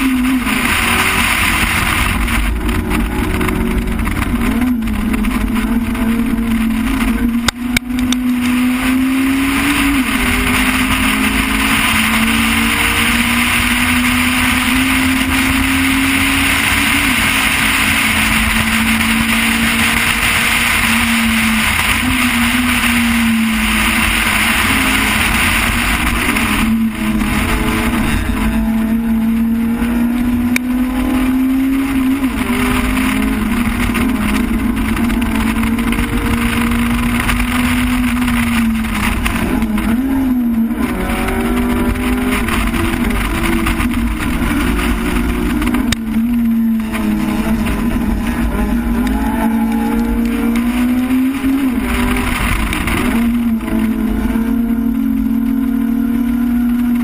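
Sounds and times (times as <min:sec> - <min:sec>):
car engine: 0:00.0 - 0:57.0
road noise rushing: 0:00.0 - 0:57.0.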